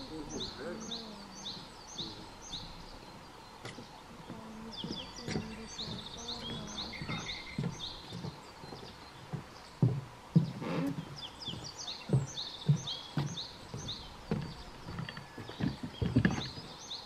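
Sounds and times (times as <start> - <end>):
bunting singing: 0.0 - 17.0.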